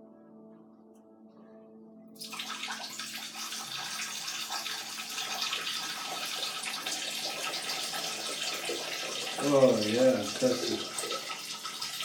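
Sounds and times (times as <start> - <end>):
water rushing into washing machine: 2.2 - 12.0.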